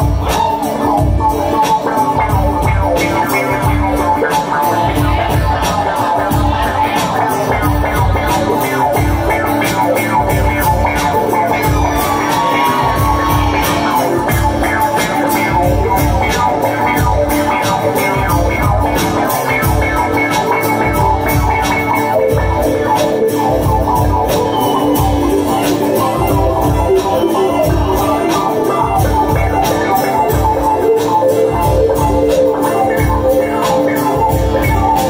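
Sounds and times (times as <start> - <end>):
acoustic guitar: 0.0 - 35.0
banjo: 0.0 - 35.0.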